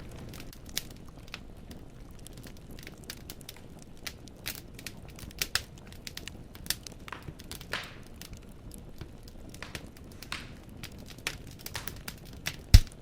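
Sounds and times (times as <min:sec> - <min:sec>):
fire crackling and popping: 0:00.0 - 0:13.0
low rush of flame: 0:00.0 - 0:13.0.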